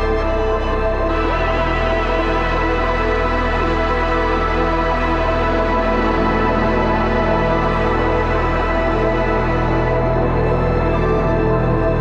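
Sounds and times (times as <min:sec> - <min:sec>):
ambient background music: 0:00.0 - 0:12.0.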